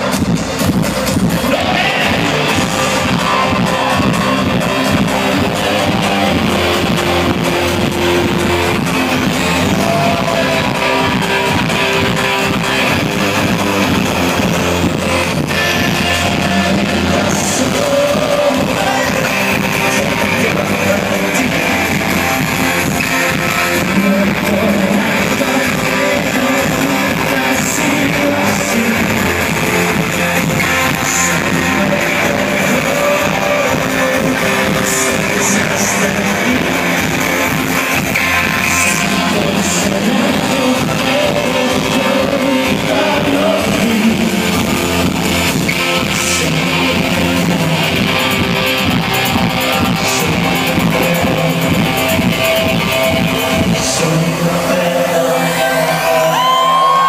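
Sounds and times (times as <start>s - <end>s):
person singing: 0.0s - 57.0s
synth-pop band playing live: 0.0s - 57.0s.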